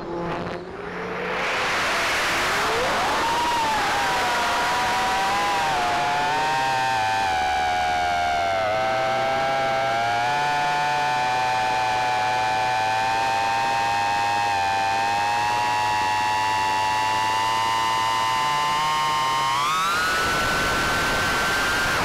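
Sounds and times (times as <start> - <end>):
quadcopter motors whining: 0.8 - 22.0.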